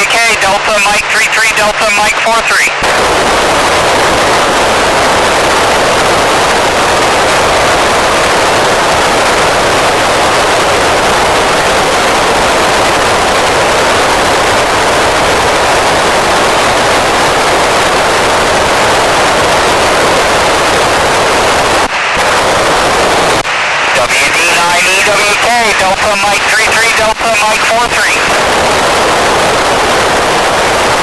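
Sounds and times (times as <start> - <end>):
radio receiver hiss: 0.0 - 31.0.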